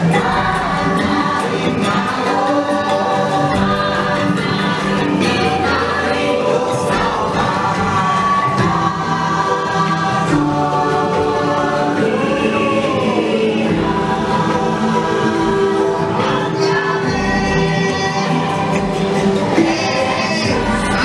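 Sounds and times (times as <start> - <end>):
choir singing over music: 0.0 - 21.0.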